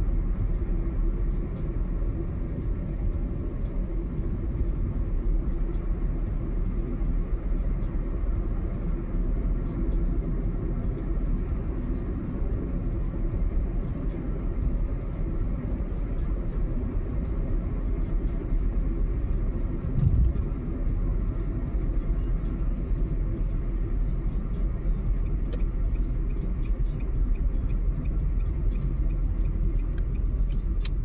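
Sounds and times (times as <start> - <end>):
tyres and engine rumbling: 0.0 - 31.0.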